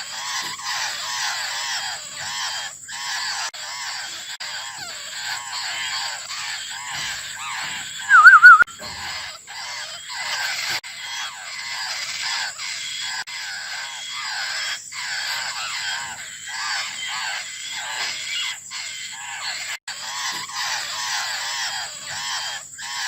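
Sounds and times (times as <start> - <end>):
bird chicks begging calls: 0.0 - 23.0.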